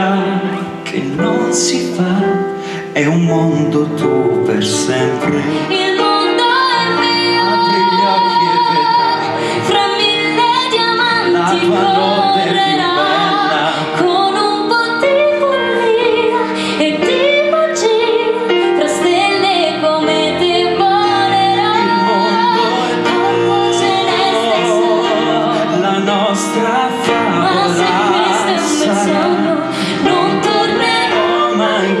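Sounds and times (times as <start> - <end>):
instrumental accompaniment: 0.0 - 32.0
person singing with vibrato: 0.0 - 32.0.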